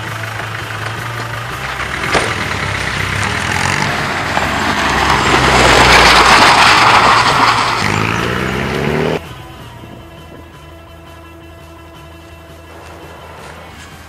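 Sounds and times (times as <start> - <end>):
car engine running: 0.0 - 14.0
tyres crunching on gravel: 0.0 - 14.0.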